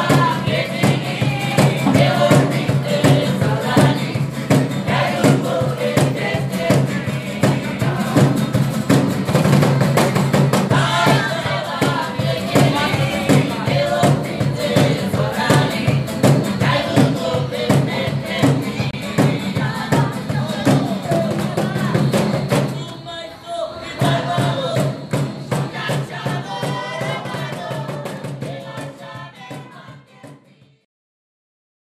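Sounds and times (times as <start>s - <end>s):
acoustic guitars strumming: 0.0s - 23.0s, 23.8s - 29.9s
group singing in chorus: 0.0s - 30.8s.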